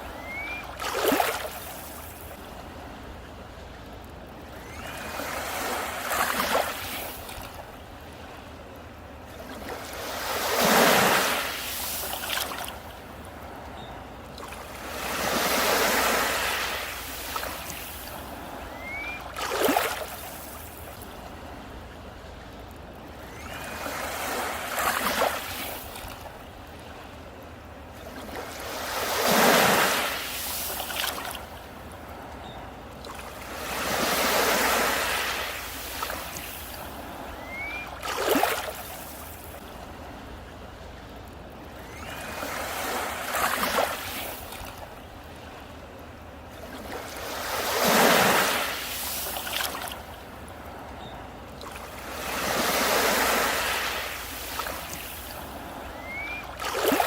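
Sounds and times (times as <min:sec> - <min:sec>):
sea waves breaking on beach: 0:00.0 - 0:22.3, 0:23.0 - 0:57.0.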